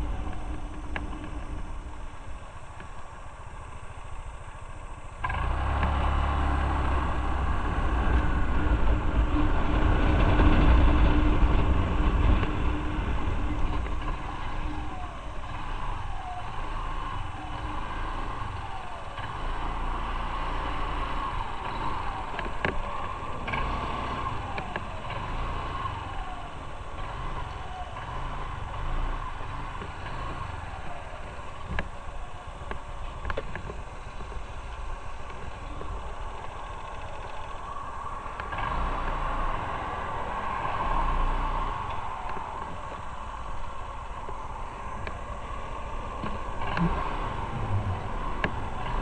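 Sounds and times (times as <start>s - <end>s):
low rumble: 0.0s - 49.0s
motor scooter engine running: 0.0s - 49.0s.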